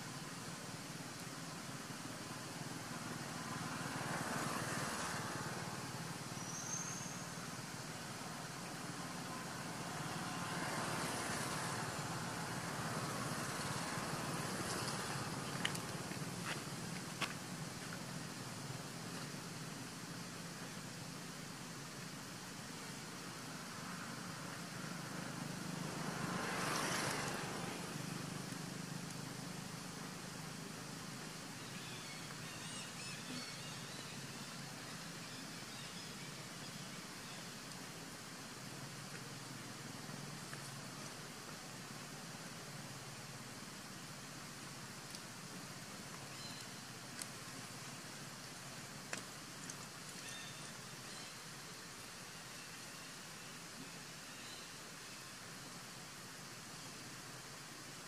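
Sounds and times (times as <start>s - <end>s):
background hiss: 0.0s - 58.0s.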